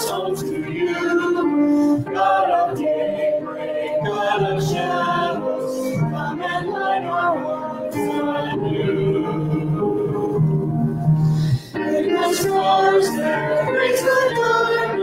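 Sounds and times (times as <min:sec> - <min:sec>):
congregation singing a hymn: 0:00.0 - 0:10.7, 0:11.8 - 0:15.0.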